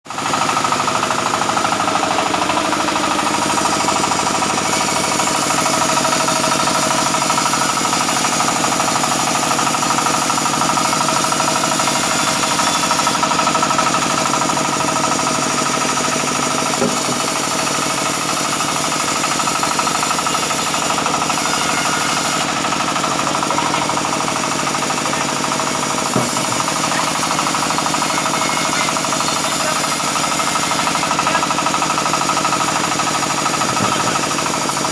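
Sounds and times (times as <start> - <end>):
band saw machinery running: 0.1 - 34.9.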